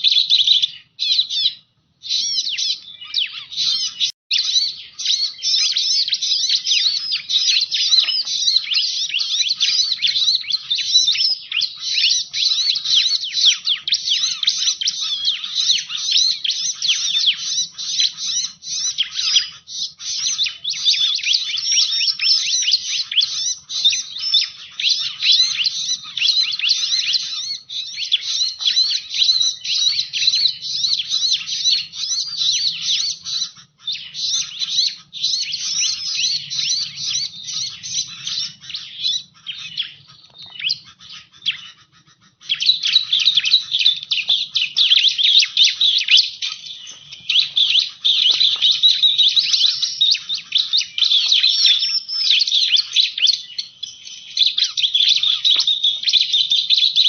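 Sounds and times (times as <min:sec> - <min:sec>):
bird chirping rapidly: 0:00.0 - 0:57.0.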